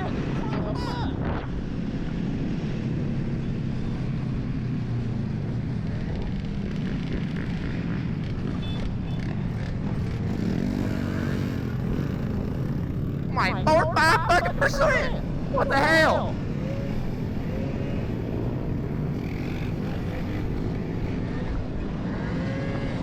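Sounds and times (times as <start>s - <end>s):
wind and road noise: 0.0s - 23.0s
vehicle traffic: 3.6s - 23.0s.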